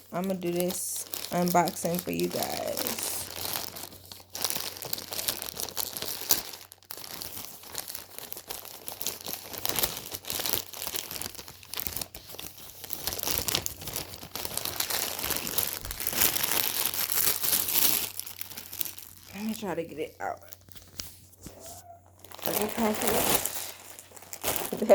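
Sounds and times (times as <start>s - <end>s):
packaging crinkling and rustling: 0.0s - 24.9s.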